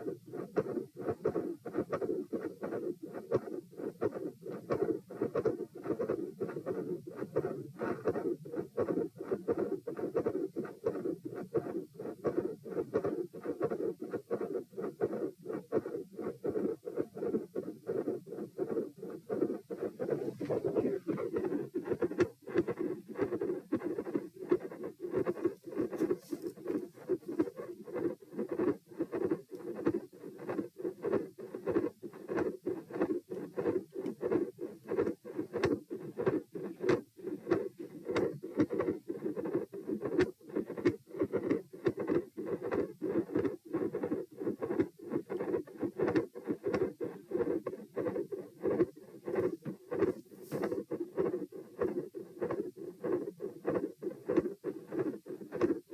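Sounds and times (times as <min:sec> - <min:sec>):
heart murmur: 0:00.0 - 0:55.9
heartbeat through stethoscope: 0:00.0 - 0:55.9.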